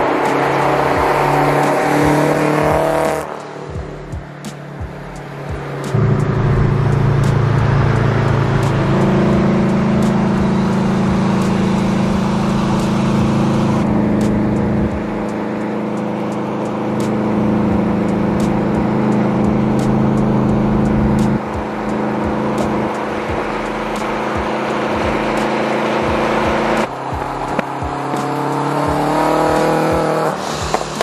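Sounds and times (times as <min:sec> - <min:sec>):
car engine and exhaust drone: 0:00.0 - 0:31.0.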